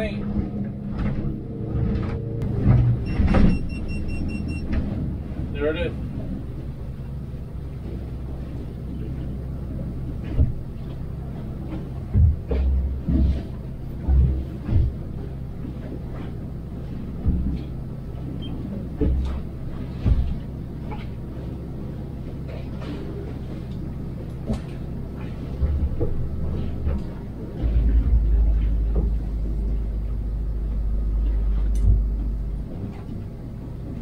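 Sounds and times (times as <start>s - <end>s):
boat engine running: 0.0s - 34.0s
deep low rumble: 0.0s - 34.0s.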